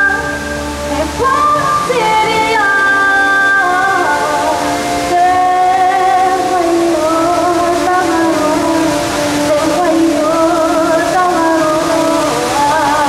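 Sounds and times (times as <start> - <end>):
sustained backing chords: 0.0 - 13.0
woman singing: 0.0 - 13.0.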